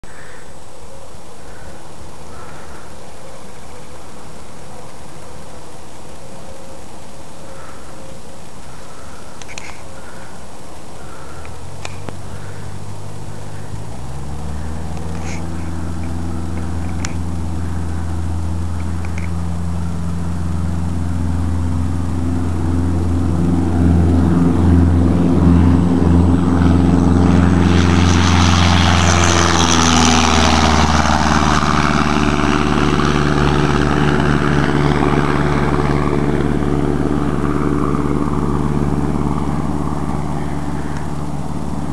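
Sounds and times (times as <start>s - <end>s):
airplane engine drone: 0.0s - 41.9s.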